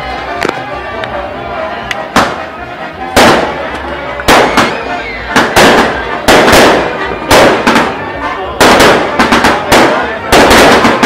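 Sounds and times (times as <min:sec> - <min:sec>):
fireworks bangs: 0:02.1 - 0:11.0.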